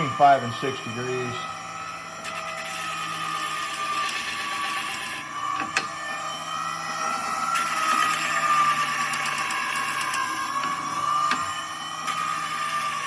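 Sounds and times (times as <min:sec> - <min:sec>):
grinder motor hum and whine: 0:00.0 - 0:13.0.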